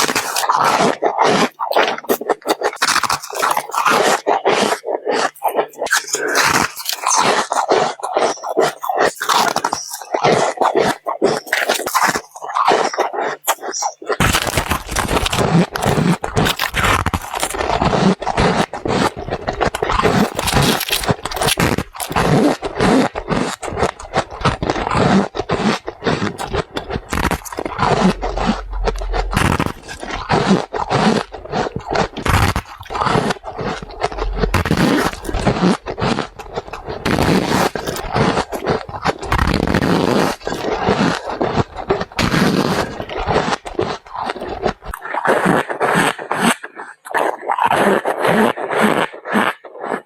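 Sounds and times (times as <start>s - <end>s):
ice being chewed: 0.0s - 50.0s.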